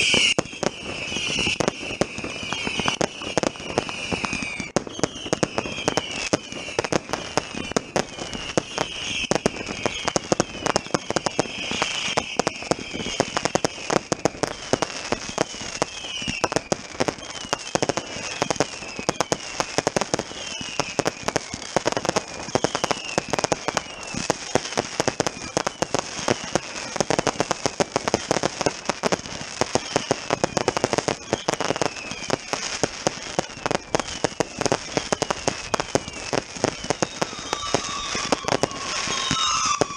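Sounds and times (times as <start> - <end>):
falling firework whistles: 0.0 - 39.9
fireworks cracking and banging: 0.0 - 39.9.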